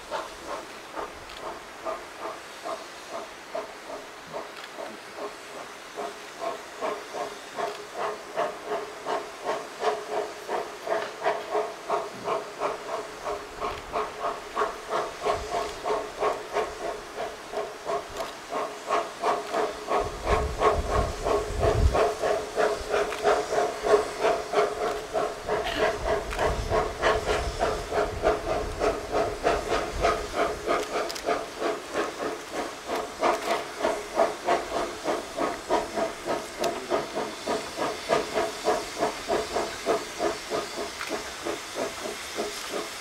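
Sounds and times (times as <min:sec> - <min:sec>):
steam locomotive chuffing: 0:00.0 - 0:43.0.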